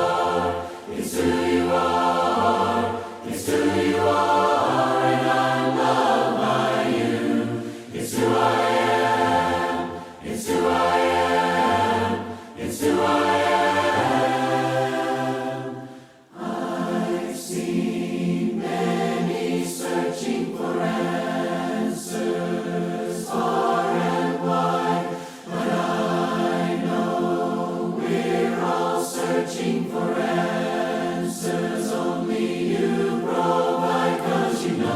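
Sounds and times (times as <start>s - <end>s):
choir singing a hymn: 0.0s - 34.9s.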